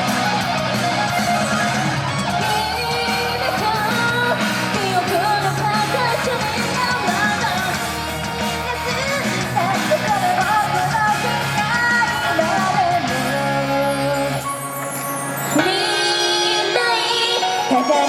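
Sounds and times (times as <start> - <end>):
rock backing track: 0.0 - 18.0
woman singing: 2.3 - 14.7, 15.4 - 18.0.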